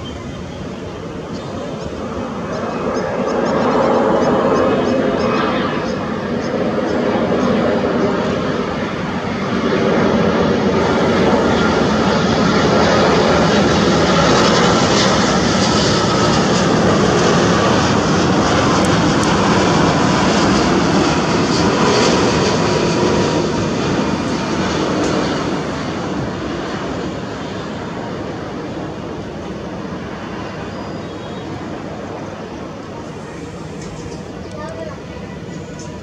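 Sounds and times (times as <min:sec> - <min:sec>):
jet engines rushing: 0:00.0 - 0:36.0.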